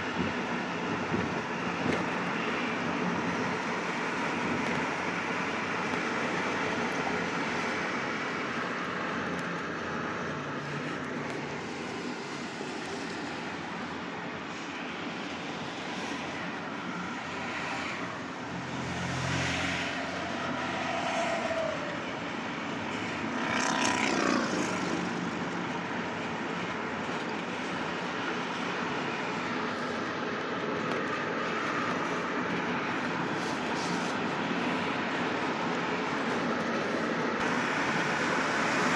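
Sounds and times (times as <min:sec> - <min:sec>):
freeway traffic noise: 0:00.0 - 0:38.9
vehicles passing by: 0:00.0 - 0:38.9.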